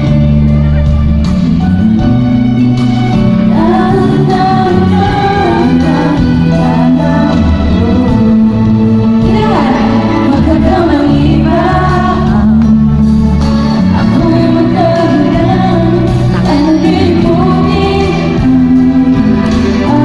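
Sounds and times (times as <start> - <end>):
pop music over sound system: 0.0 - 20.0
woman singing: 3.4 - 20.0.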